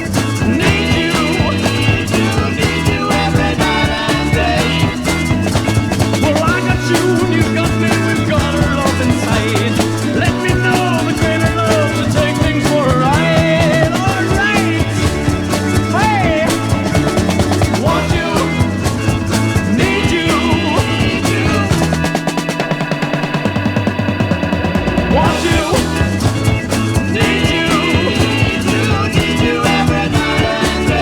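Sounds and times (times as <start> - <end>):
bass line: 0.0 - 31.0
drum kit beat: 0.0 - 31.0
garage rock record playing: 0.0 - 31.0.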